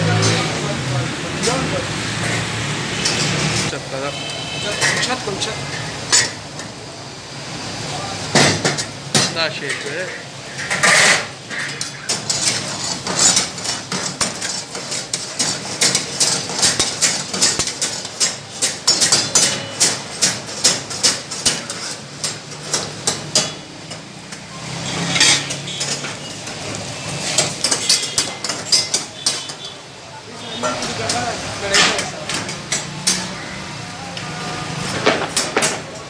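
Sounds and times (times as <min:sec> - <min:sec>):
metal utensils clanking on woks: 0:00.0 - 0:07.1, 0:08.2 - 0:36.0.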